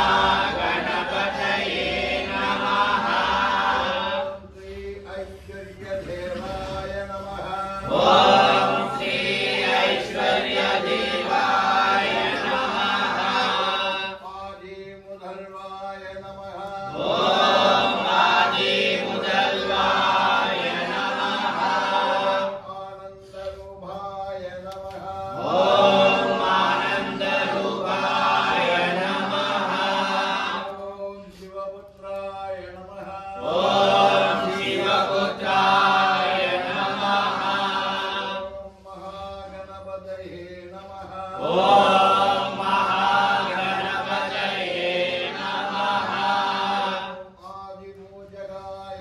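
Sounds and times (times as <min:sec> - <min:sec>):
men chanting in unison: 0:00.0 - 0:49.0.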